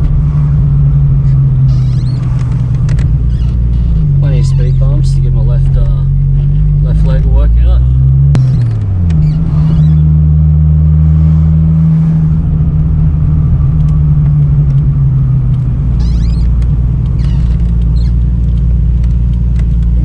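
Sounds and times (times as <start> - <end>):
car engine hum: 0.0 - 20.0.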